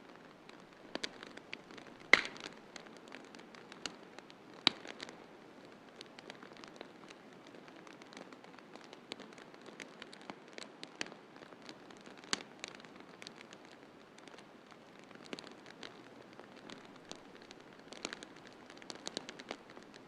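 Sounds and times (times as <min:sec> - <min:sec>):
wood fire crackling: 0:00.0 - 0:20.0
sharp pops and snaps: 0:00.5 - 0:05.2, 0:06.0 - 0:20.0.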